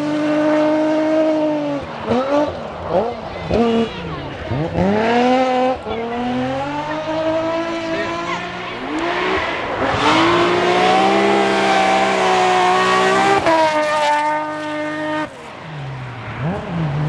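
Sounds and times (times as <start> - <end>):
rally car engine at full throttle: 0.0 - 17.0.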